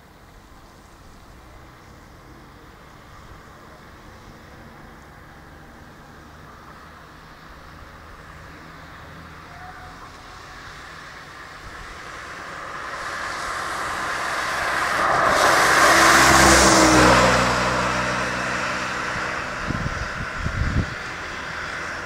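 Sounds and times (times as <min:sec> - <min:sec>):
low engine hum: 0:00.0 - 0:22.0
tyres hissing on wet road: 0:00.0 - 0:22.0.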